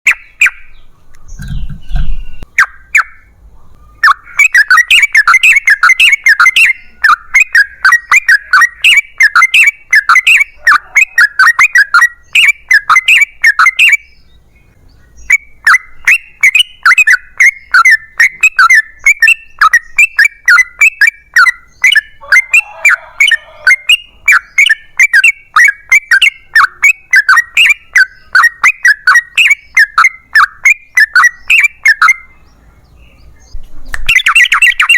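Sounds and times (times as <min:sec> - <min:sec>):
bird singing chattering notes: 0:00.0 - 0:34.9.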